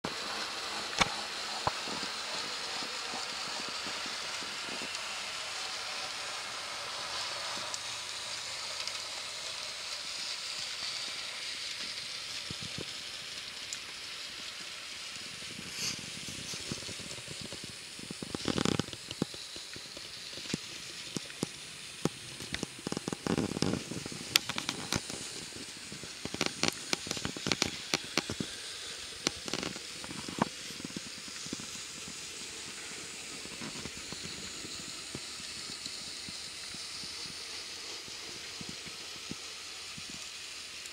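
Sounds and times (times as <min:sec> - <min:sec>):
sharp clicks and ticks: 0:00.1 - 0:07.9, 0:10.2 - 0:40.9
model train running on track: 0:00.1 - 0:18.5, 0:19.1 - 0:40.9.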